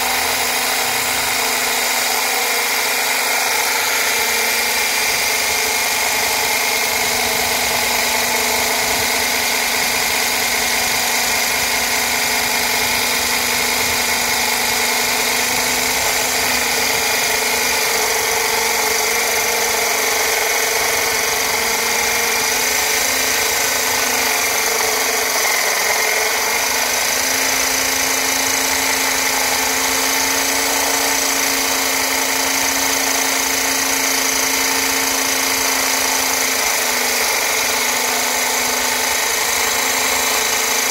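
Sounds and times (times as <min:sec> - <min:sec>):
core drill motor whine: 0:00.0 - 0:40.9
drill bit grinding stone: 0:00.0 - 0:40.9.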